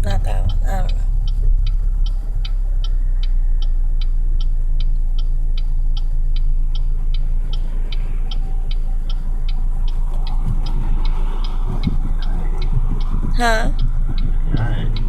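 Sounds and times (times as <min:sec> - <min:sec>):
low rumble of moving car: 0:00.0 - 0:15.0
turn signal ticking: 0:00.0 - 0:15.0.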